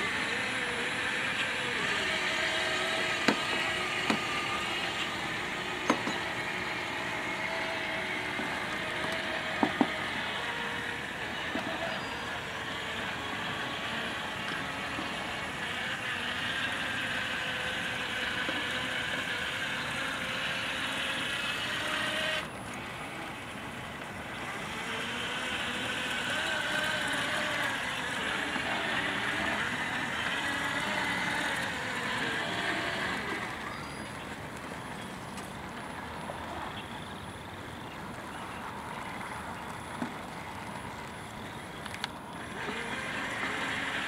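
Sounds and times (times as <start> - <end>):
electric motors whirring: 0.0 - 44.0.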